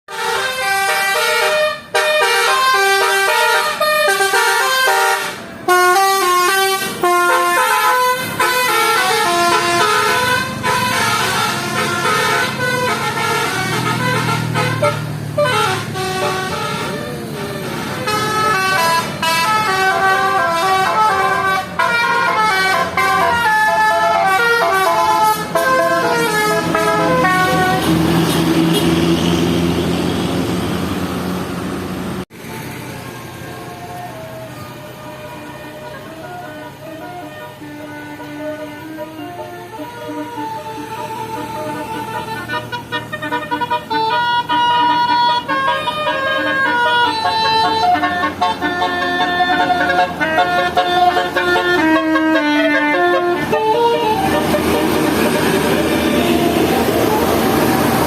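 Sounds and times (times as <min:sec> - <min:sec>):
bus air horns playing tunes: 0:00.1 - 0:31.0, 0:33.7 - 0:58.0
low engine rumble: 0:05.4 - 0:58.0.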